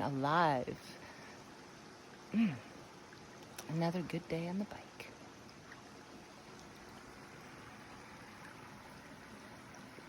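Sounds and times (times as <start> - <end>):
faint forest ambience hiss: 0.0 - 10.0.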